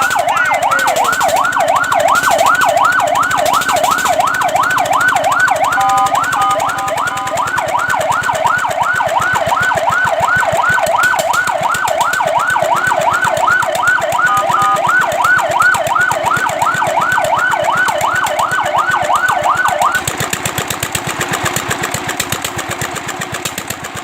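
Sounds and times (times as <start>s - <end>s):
fire truck siren yelping: 0.0s - 23.7s
engine running: 0.0s - 24.0s.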